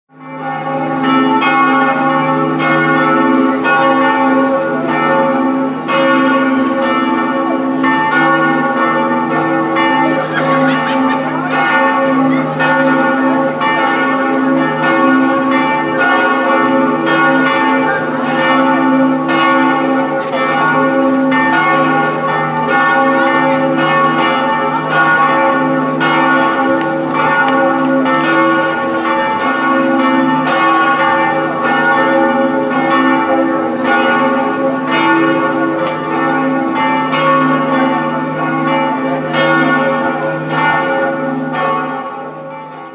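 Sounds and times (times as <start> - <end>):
church bells pealing: 0.1 - 42.9.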